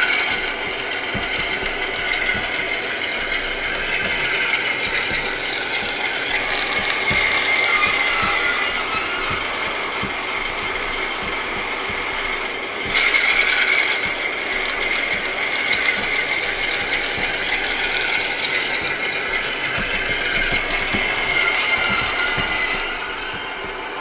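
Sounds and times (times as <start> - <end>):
model motor and gears whirring: 0.0 - 24.0.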